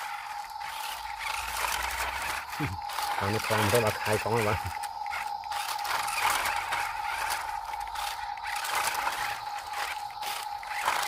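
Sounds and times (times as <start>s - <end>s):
toy motor and gears whining: 0.0s - 11.0s
tyres crunching in gravel: 0.0s - 11.0s.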